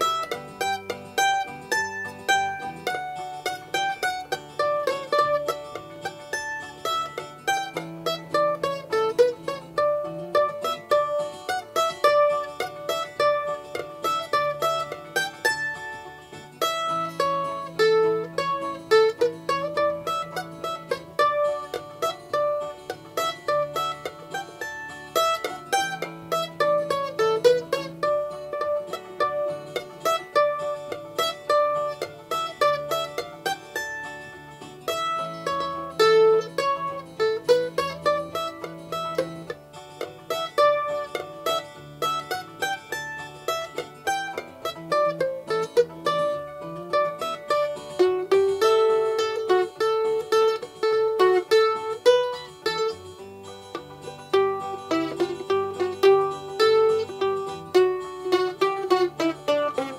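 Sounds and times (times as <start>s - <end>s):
mandolin picking fast tune: 0.0s - 59.9s.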